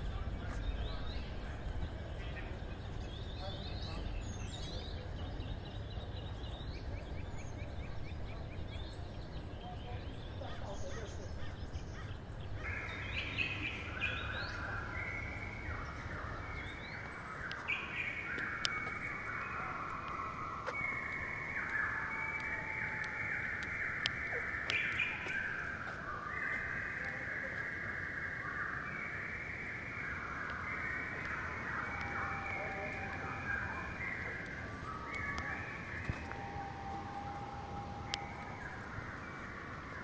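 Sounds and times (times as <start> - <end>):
forest birds chorus: 0.0 - 40.0.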